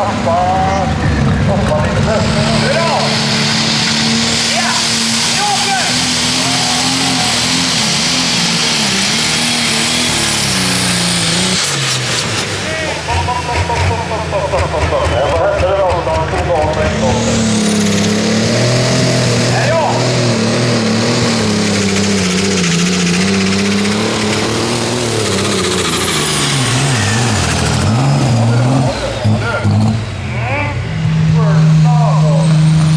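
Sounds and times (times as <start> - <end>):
tractor engine under full load: 0.0 - 32.9
high whine: 0.2 - 32.9.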